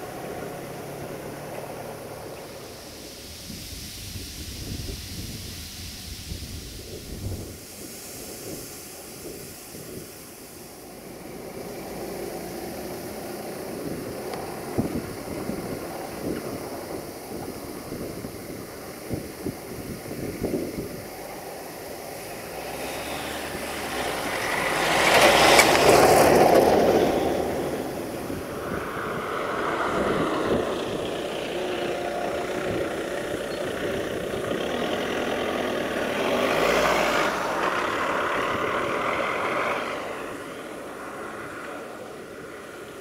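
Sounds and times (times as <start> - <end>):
distant diesel locomotive running: 0.0 - 4.3, 9.7 - 43.0
tractor diesel engine: 0.0 - 43.0.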